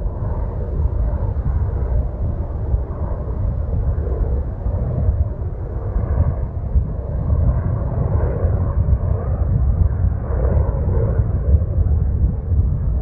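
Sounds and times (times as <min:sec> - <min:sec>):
aircraft rumble: 0:00.0 - 0:13.0.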